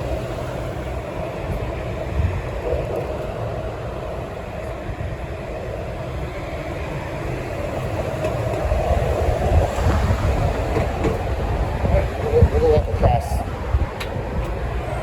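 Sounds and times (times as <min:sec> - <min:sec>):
heavy low rumble: 0:00.0 - 0:15.0
passing vehicles engine and tyre noise: 0:00.0 - 0:15.0.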